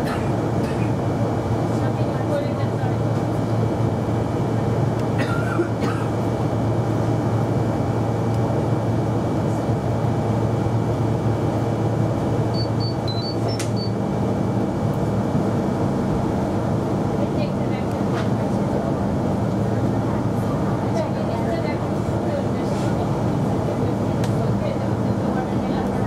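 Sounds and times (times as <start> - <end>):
trains rumbling: 0.0 - 12.5, 13.6 - 26.0.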